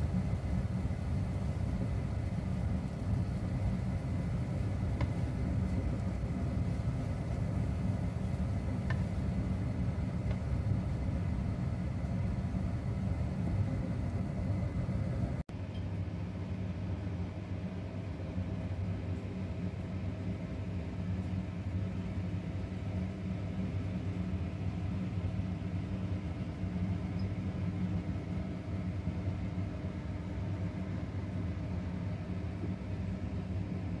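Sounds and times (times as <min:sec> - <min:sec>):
steady low rumble and hum: 0:00.0 - 0:34.0.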